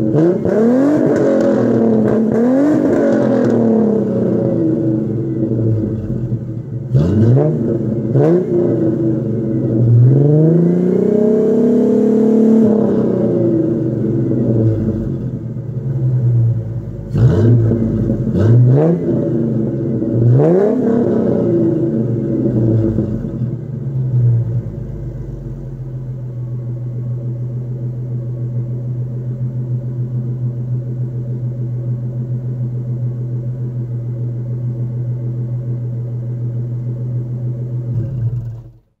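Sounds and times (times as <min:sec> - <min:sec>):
car engine revving and idling: 0:00.0 - 0:39.0.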